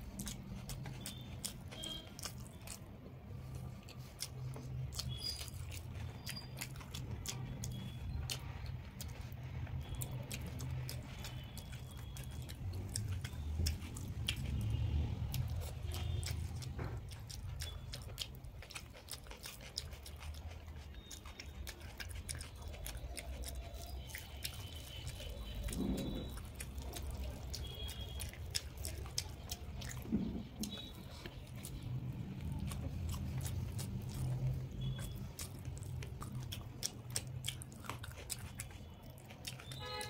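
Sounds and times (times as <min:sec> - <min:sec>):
wet chewing and mouth clicks: 0:00.0 - 0:40.0.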